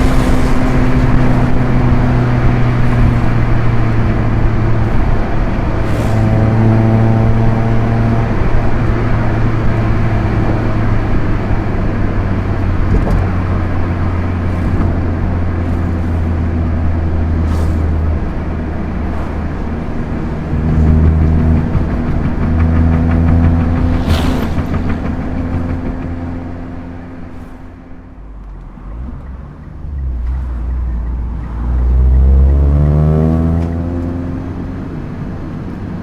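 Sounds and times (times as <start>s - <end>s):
car engine: 0.0s - 36.0s
road noise: 0.0s - 36.0s.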